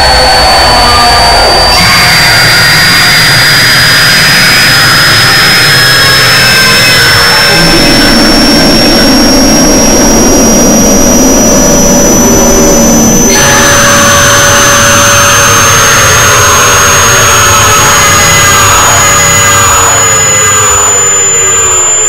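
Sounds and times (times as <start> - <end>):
harsh dense noise: 0.0 - 22.0
piercing high whine: 0.0 - 22.0.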